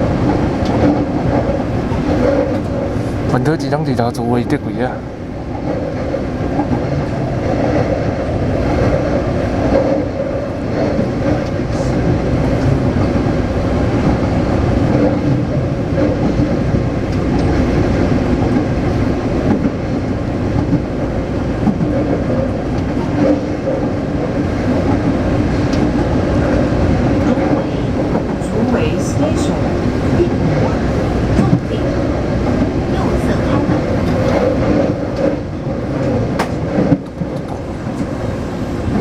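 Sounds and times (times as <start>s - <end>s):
train rail rumble: 0.0s - 39.0s.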